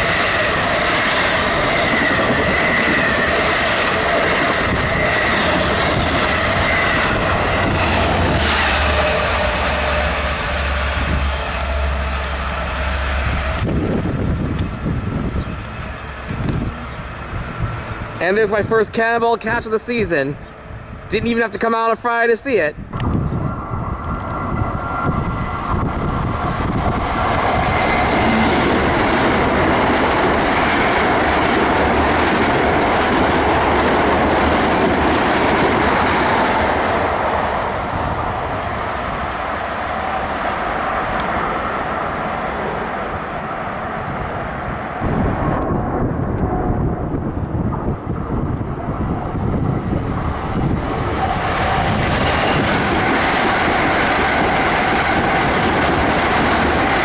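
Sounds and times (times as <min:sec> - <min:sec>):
train wheels rumbling on rails: 0:00.0 - 0:18.7, 0:22.8 - 0:57.0.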